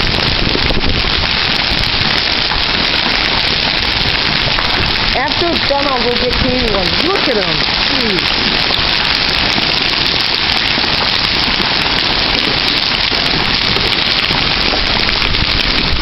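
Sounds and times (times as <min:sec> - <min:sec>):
hailstones pelting down: 0:00.0 - 0:16.0.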